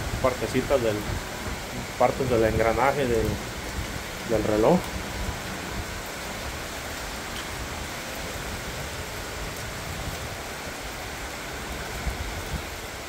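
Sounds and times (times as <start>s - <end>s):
rain on stonework: 0.0s - 13.0s.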